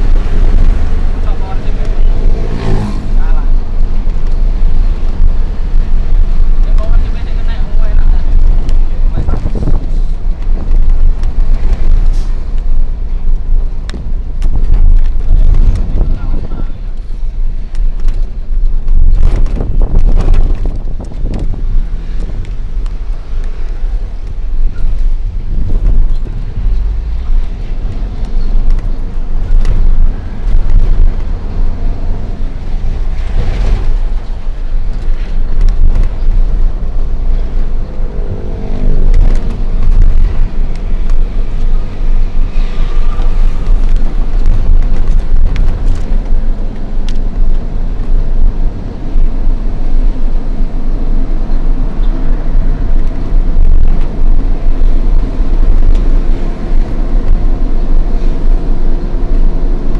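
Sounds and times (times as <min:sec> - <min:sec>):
road noise: 0:00.0 - 0:59.9
truck diesel engine rumbling: 0:00.0 - 0:59.9.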